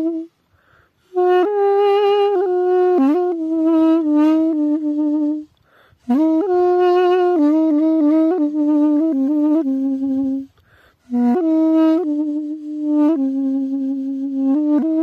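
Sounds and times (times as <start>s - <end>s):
double-reed pipe slow melody: 0.0s - 15.0s.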